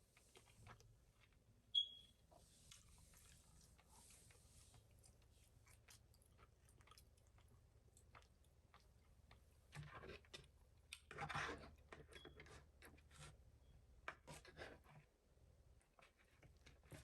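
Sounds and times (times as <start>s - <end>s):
faint chewing with crunches: 0.0s - 1.7s, 2.3s - 17.0s.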